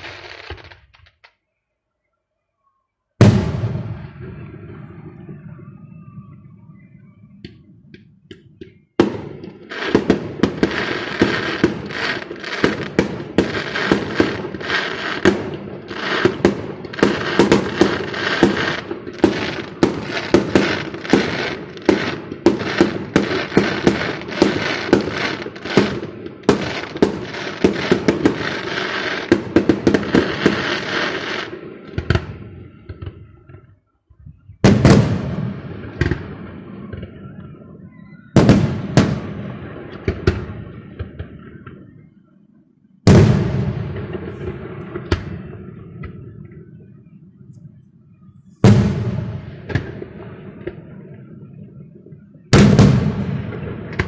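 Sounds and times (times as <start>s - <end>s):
fireworks bangs and crackles: 0.0s - 1.3s, 3.2s - 33.8s, 34.5s - 42.2s, 43.0s - 47.2s, 48.4s - 54.0s.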